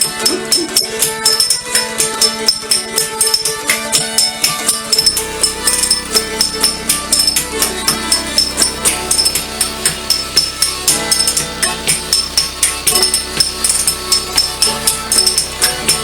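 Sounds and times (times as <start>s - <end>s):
background music with shaken percussion: 0.0s - 16.0s.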